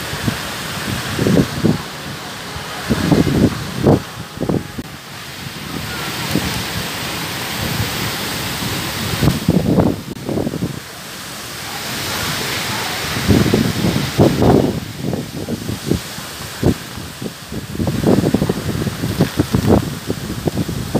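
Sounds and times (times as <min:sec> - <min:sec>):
heavy rain hissing: 0:00.0 - 0:20.9
wind gusts buffeting microphone: 0:00.0 - 0:20.9.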